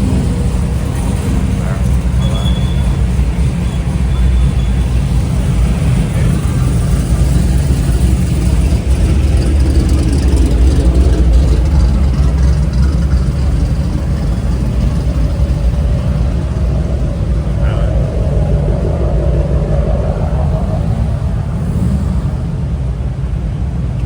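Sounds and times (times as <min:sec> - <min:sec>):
car engines idling: 0:00.0 - 0:24.0.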